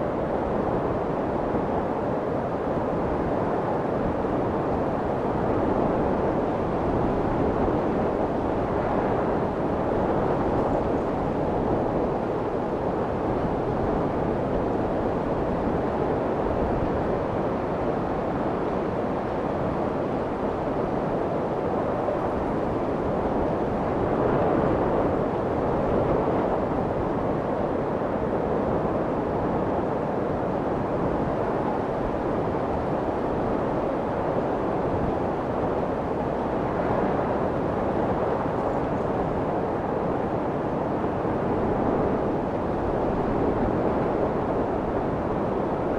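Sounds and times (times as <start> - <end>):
muffled white noise: 0.0 - 45.9.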